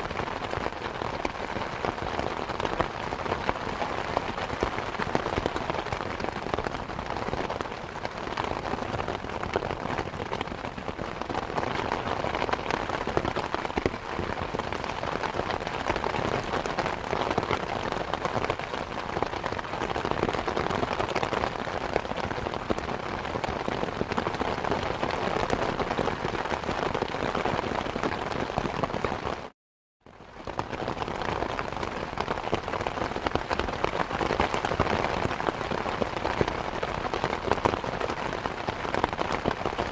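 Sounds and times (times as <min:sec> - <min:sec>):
steady rain falling: 0:00.0 - 0:29.5, 0:30.1 - 0:39.9.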